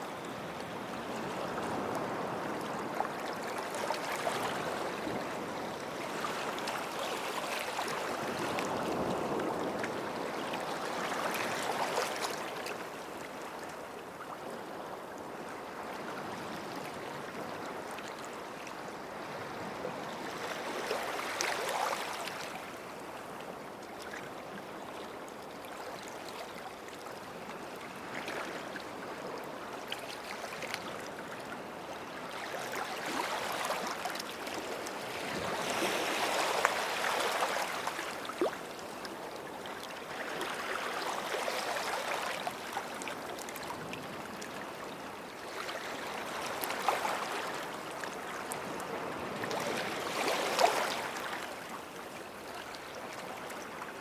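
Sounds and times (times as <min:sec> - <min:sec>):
small waves washing onto shore: 0:00.0 - 0:54.0.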